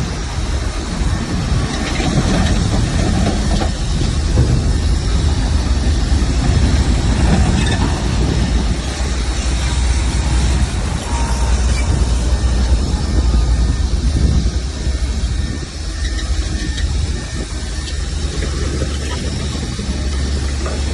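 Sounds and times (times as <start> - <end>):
bulldozer diesel engine rumbling: 0.0 - 20.9
tracks clanking: 0.0 - 20.9.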